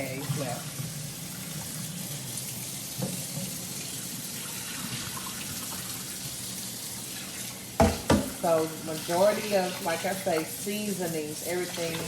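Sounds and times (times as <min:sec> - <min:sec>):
pineapple sizzling in a skillet: 0:00.0 - 0:12.0.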